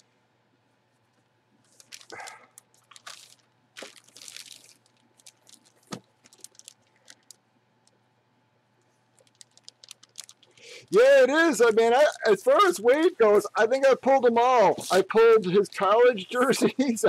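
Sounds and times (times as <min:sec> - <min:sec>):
plastic bag crinkling: 0:01.6 - 0:08.0, 0:09.1 - 0:16.8.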